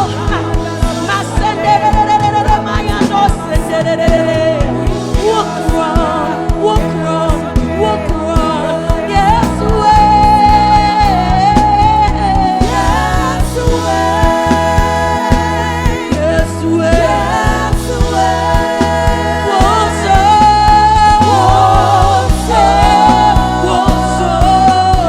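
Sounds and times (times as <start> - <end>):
drum beat: 0.0 - 25.0
keyboard chords: 0.0 - 25.0
person singing: 0.0 - 25.0.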